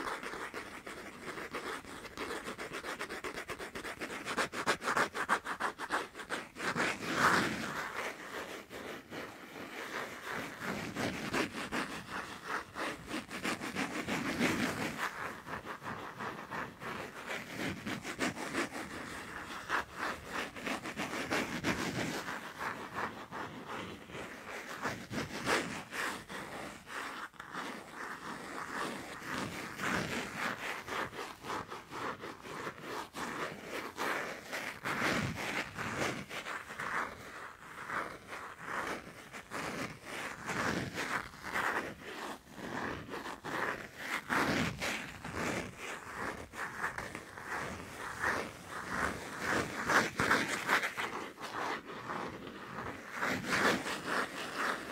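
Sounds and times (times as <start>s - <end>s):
scratching strokes: 0.0s - 54.9s.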